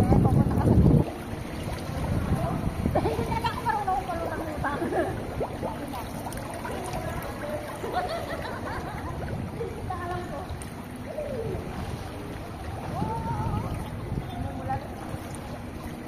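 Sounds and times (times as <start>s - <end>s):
pool water sloshing and splashing: 0.0s - 16.0s
faint voices: 1.9s - 16.0s.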